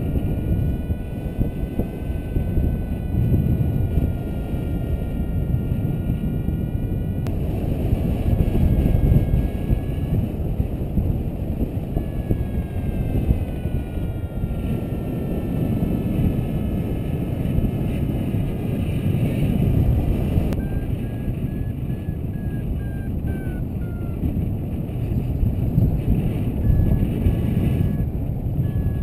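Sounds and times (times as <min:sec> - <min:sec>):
faint high beeping: 0:00.0 - 0:19.5, 0:20.2 - 0:24.4, 0:25.0 - 0:29.0
wind buffeting microphone: 0:00.0 - 0:29.0.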